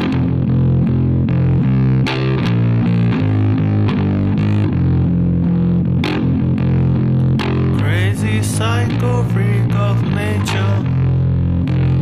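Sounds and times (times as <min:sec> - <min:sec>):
heavy low riff: 0:00.0 - 0:12.0.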